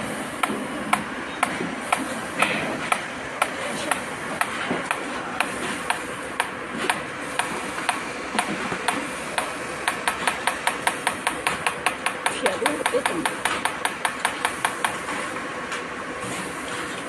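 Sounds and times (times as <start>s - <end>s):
machine paddles clicking: 0.4s - 15.9s.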